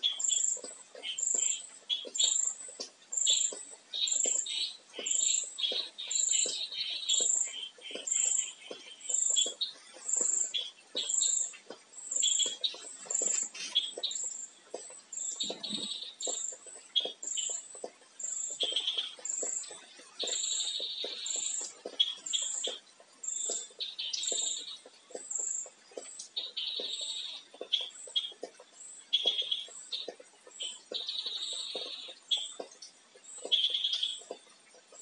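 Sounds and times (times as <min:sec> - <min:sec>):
birds chirping and trilling: 0:00.0 - 0:35.0.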